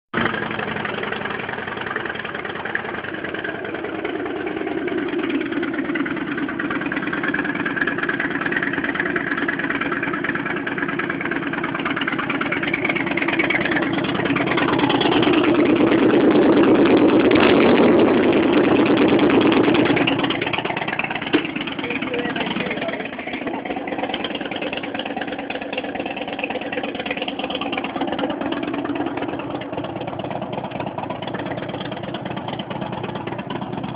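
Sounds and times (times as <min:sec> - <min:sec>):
motorcycle engines idling: 0:00.2 - 0:33.9.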